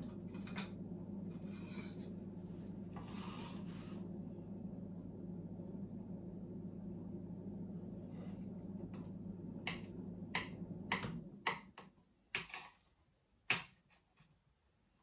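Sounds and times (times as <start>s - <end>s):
low steady hum: 0.0s - 12.3s.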